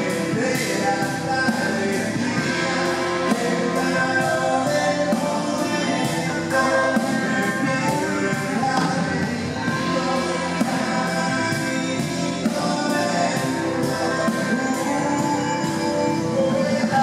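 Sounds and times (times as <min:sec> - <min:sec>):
drum kit beat: 0:00.0 - 0:17.0
person singing: 0:00.0 - 0:17.0.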